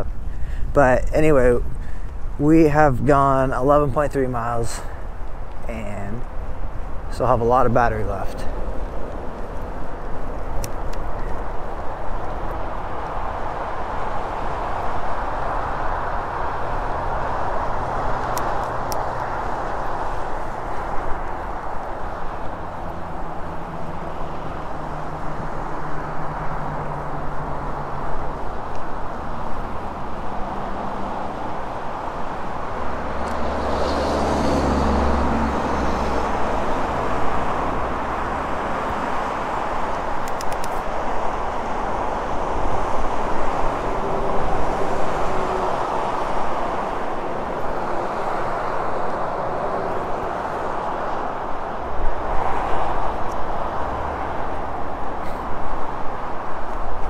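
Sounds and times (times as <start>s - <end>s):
vehicle passing rumble: 0.0s - 57.0s.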